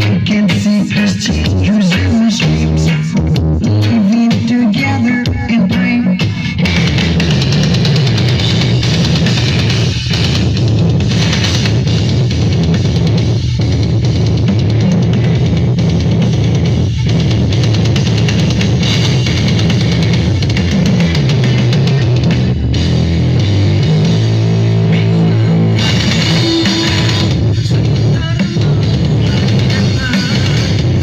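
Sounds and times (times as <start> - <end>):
loud rock music with heavy bass: 0.0 - 31.0.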